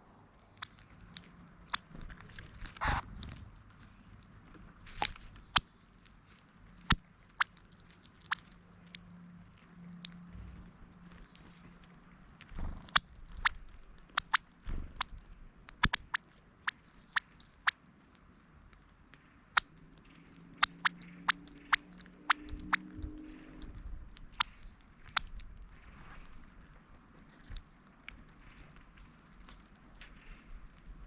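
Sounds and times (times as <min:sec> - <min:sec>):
bird sharp clicks and ticks: 0:00.1 - 0:31.0.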